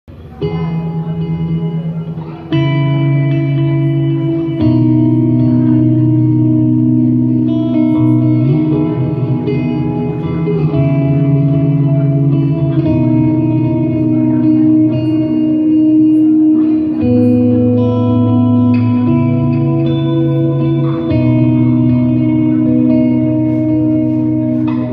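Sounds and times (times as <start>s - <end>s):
ambient electric guitar chords: 0.1s - 24.9s.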